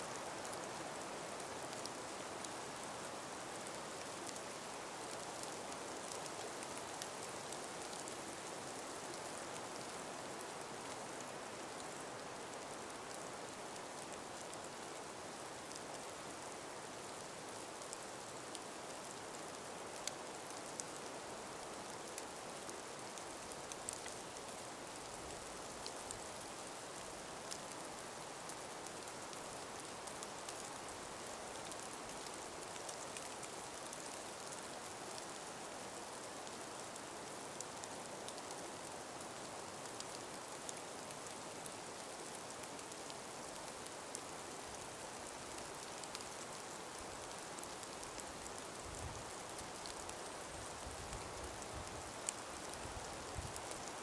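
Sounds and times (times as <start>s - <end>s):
soft breeze hiss: 0.0s - 54.0s
faint ticks and clicks: 0.3s - 10.0s, 15.6s - 54.0s.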